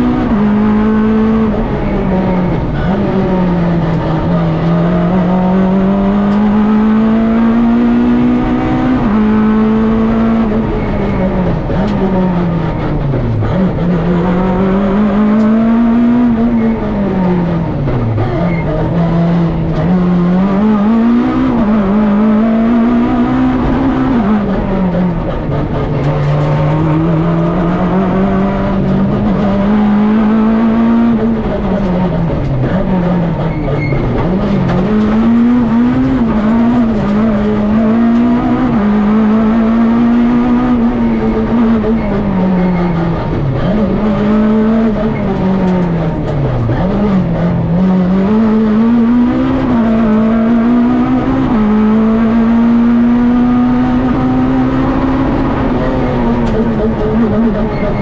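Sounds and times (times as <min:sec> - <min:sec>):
rally car engine revving: 0:00.0 - 0:58.0
tyre and road noise: 0:00.0 - 0:58.0.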